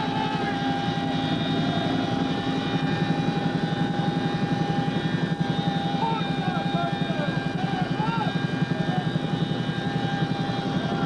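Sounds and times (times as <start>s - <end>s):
helicopter rotor beat: 0.0s - 11.0s
high whine: 0.0s - 11.0s.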